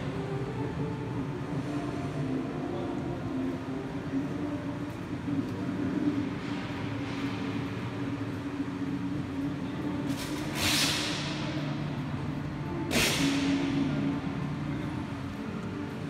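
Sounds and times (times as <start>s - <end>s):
steady hum with low tone: 0.0s - 16.0s.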